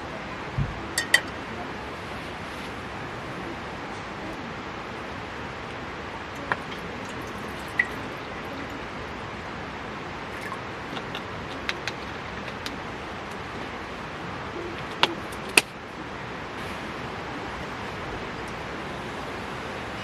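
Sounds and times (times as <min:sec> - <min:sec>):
heavy rain hissing: 0:00.0 - 0:20.0
campfire crackling: 0:00.6 - 0:20.0.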